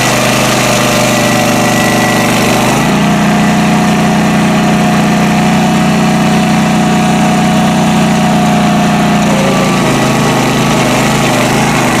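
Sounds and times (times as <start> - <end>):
stump grinder running: 0.0 - 12.0.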